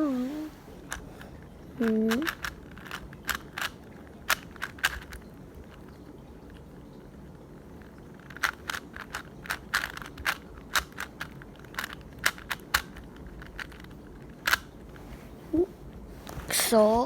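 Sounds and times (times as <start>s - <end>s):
puzzle cube clicking: 0.8s - 14.9s.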